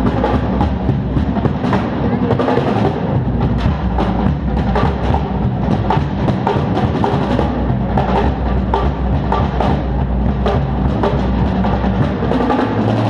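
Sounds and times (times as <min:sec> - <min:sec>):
drum kit played fast: 0:00.0 - 0:13.0.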